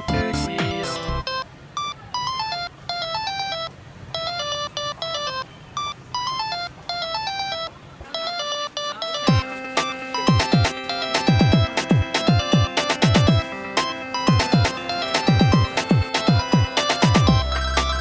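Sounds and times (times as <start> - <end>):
chiptune music: 0.0 - 18.0.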